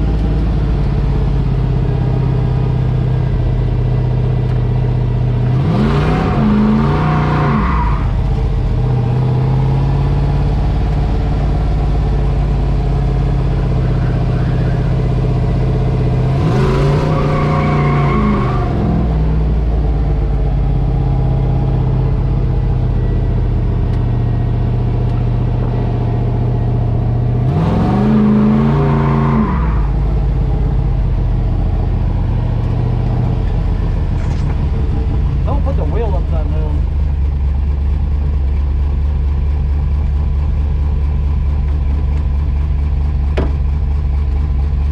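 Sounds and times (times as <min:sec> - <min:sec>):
truck engine revving: 0:00.0 - 0:37.3.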